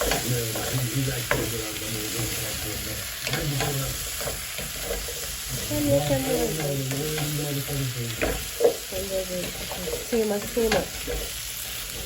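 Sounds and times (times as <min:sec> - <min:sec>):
food sizzling in a pan: 0:00.0 - 0:12.0
utensil stirring and clicking: 0:00.0 - 0:12.0.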